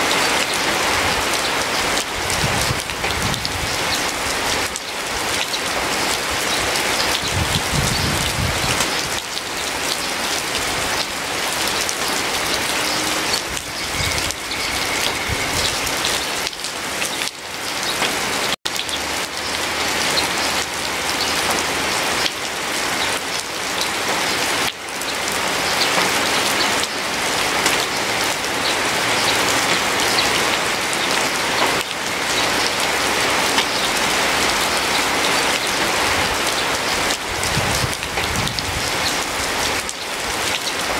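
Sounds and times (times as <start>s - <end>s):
rain pattering on a surface: 0.0s - 40.9s.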